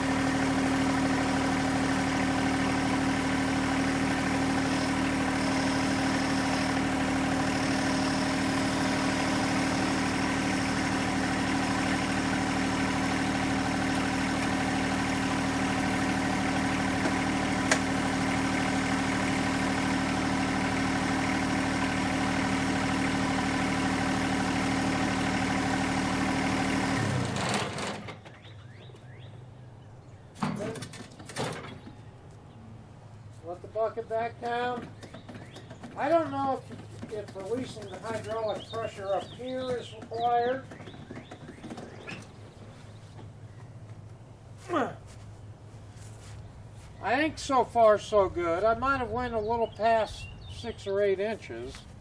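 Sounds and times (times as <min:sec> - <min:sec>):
tractor diesel engine idling: 0:00.0 - 0:29.2, 0:32.9 - 0:52.0
engine running down: 0:00.0 - 0:30.0, 0:30.6 - 0:52.0.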